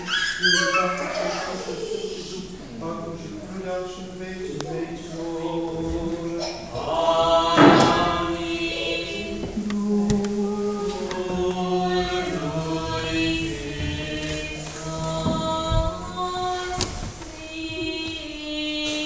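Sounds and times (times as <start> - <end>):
voices chanting a hymn: 0.0 - 19.0.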